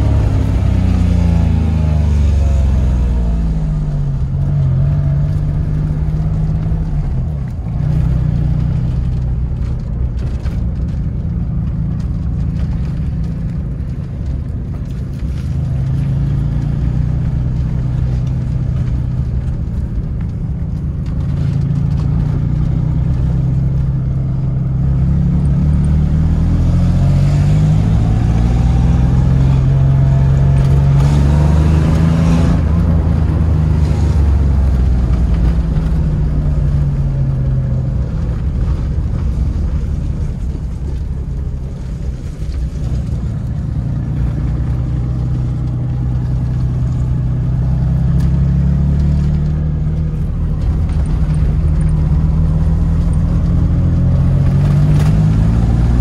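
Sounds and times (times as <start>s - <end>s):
car engine running: 0.0s - 56.0s
road noise: 0.0s - 56.0s.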